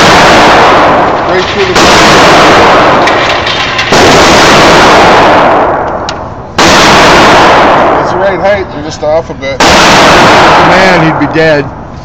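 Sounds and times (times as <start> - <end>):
gunshots with echoing tail: 0.0 - 8.7, 9.5 - 12.0.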